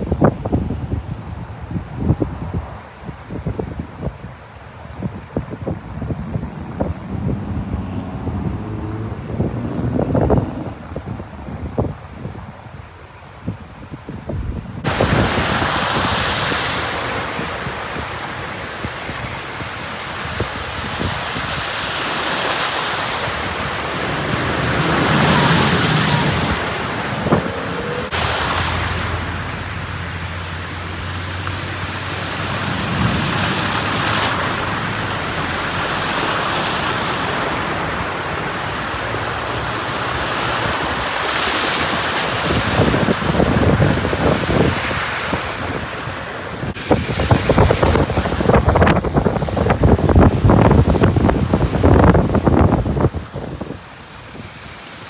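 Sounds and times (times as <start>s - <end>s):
vehicles splashing through water: 0.0s - 55.0s
wind buffeting microphone: 0.0s - 55.0s.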